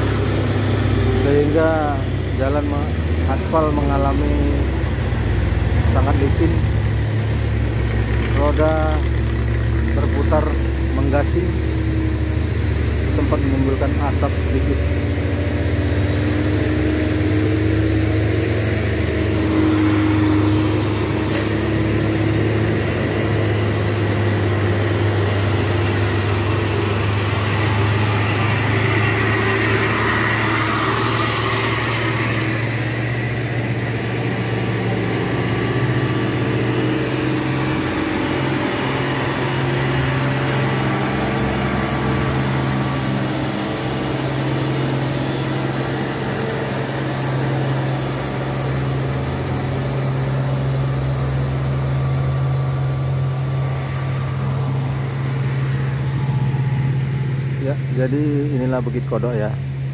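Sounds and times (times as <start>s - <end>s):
heavy diesel trucks passing: 0.0s - 59.9s.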